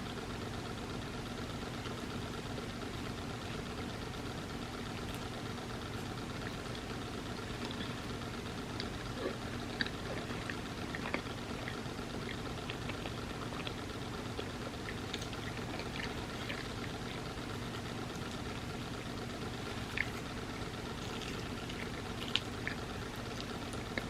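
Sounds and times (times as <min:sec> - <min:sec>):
steady background hum: 0:00.0 - 0:24.0
chewing and lip smacks: 0:01.6 - 0:24.0.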